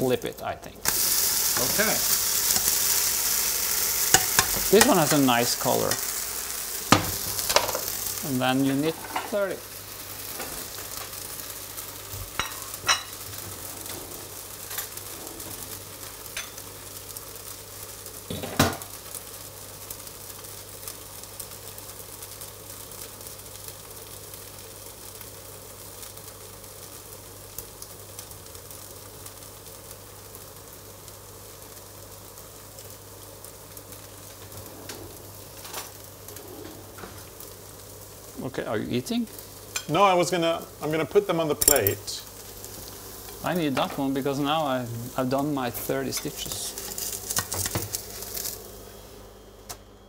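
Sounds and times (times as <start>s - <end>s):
batter sizzling in a frying pan: 0.0s - 50.0s.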